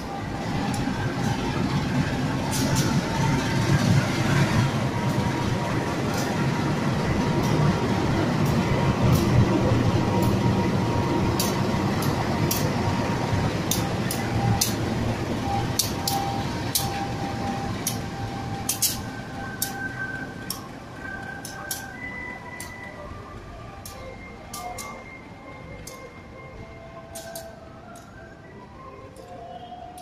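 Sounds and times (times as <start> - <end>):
locomotive engine rumble: 0.0 - 30.0.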